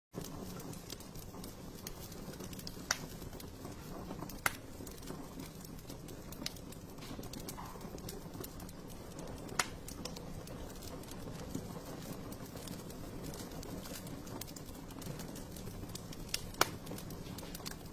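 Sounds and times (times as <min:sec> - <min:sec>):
wood fire crackling: 0:00.1 - 0:17.9
fire pops: 0:00.2 - 0:17.9
flames rumbling: 0:00.2 - 0:17.9.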